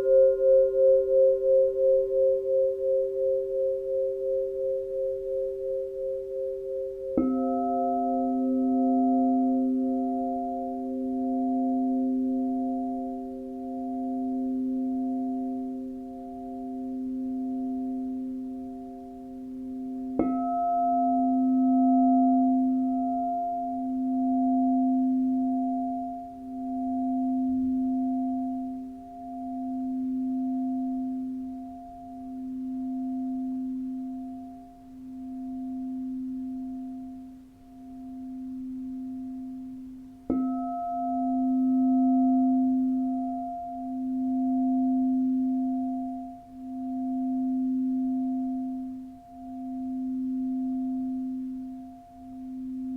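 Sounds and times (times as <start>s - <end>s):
singing bowl ringing: 0.0s - 52.9s.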